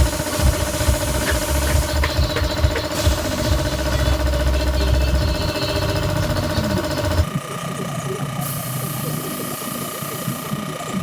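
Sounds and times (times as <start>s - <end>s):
engine running with knocks: 0.0s - 11.0s.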